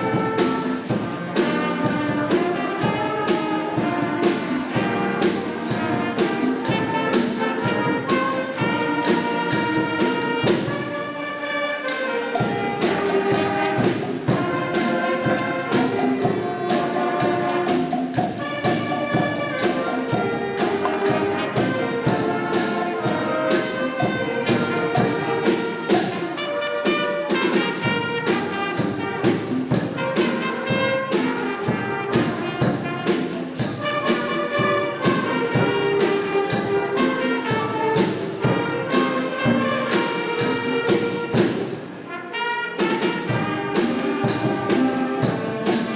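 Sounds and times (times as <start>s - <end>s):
drum kit with cymbals: 0.0s - 11.2s, 11.8s - 45.9s
concert band playing: 0.0s - 45.9s.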